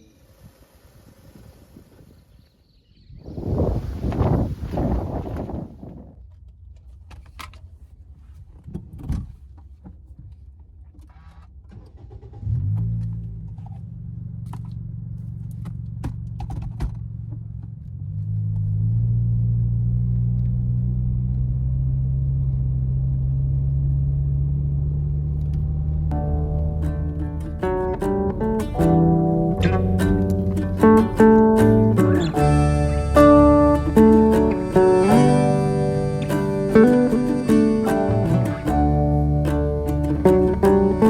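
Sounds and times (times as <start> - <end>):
car engine starting and idling: 5.2 - 41.0.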